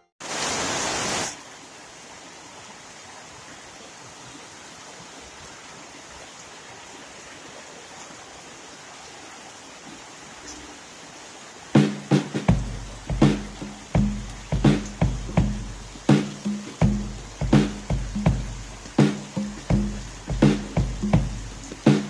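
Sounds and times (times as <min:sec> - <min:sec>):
heavy rain falling: 0:00.2 - 0:22.0.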